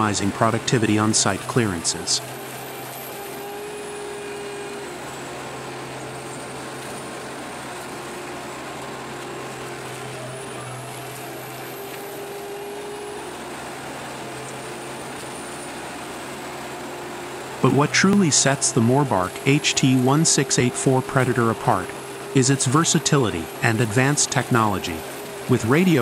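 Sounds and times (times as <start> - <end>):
stump shredder engine drone: 0.0 - 26.0.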